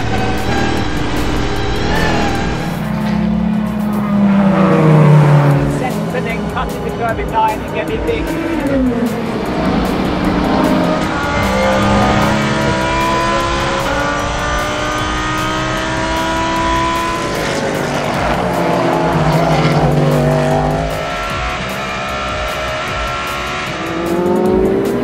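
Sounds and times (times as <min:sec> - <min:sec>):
race car engine at speed: 0:00.0 - 0:25.0.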